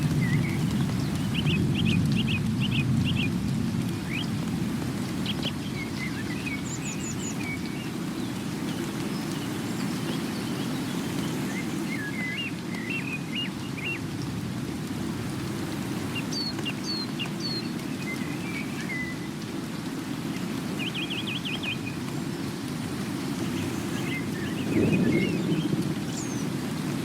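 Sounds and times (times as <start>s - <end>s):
small birds chirping: 0.0s - 14.4s, 16.0s - 27.0s
steady rain: 0.0s - 27.0s.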